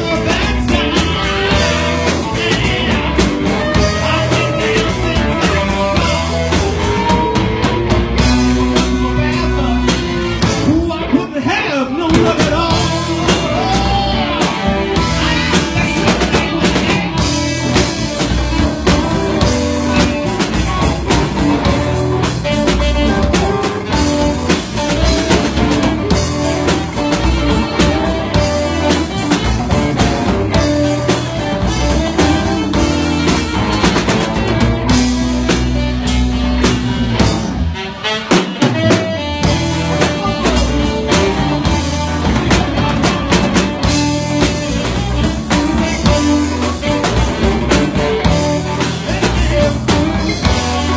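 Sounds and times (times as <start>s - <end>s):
saxophone: 0.0s - 11.0s, 12.2s - 50.9s
bass guitar: 0.0s - 50.9s
drum kit: 0.0s - 50.9s
electric guitar: 0.0s - 50.9s.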